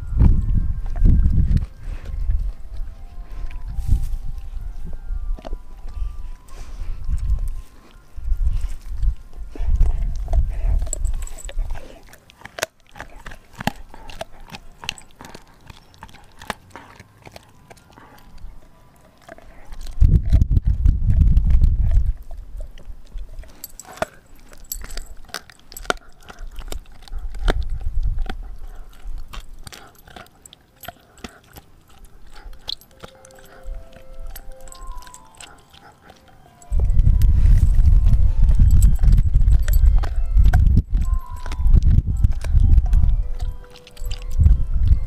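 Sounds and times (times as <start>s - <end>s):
dog chewing bone: 0.3s - 45.0s.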